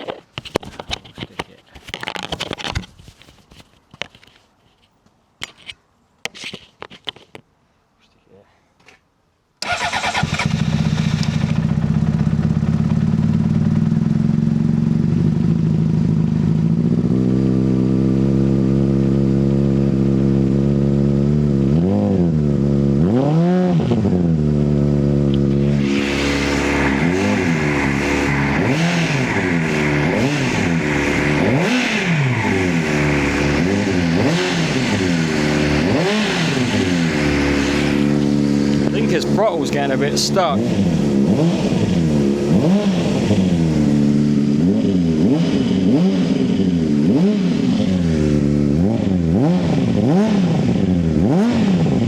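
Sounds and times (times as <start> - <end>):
motorcycle engine idling and revving: 9.6 - 52.0.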